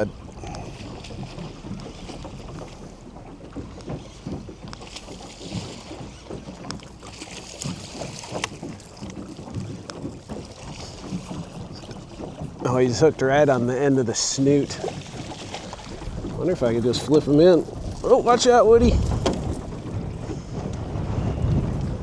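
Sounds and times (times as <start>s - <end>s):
wind on microphone: 0.0s - 6.8s, 10.4s - 22.0s
light clicks and knocks: 0.0s - 22.0s
water lapping against boat: 0.0s - 22.0s.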